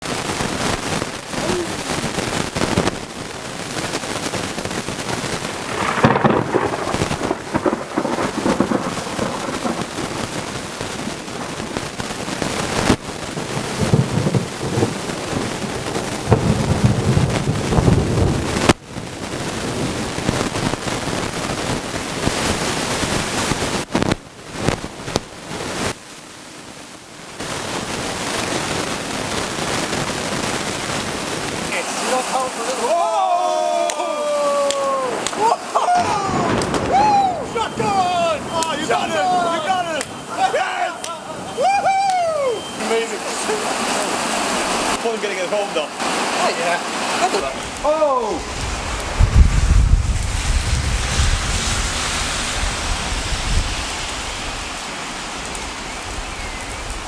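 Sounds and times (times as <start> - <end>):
thunder rumbling: 0.0 - 25.5, 35.0 - 57.0
heavy rain hissing: 0.0 - 57.0.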